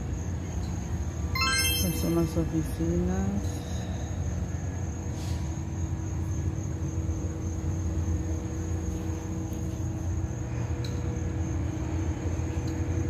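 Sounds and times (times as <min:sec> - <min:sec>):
machine and traffic rumble: 0:02.2 - 0:13.0.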